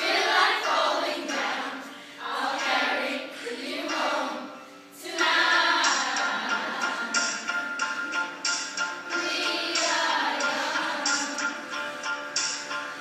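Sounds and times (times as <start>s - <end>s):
children singing together: 0.0s - 13.0s
recorded music: 0.0s - 13.0s.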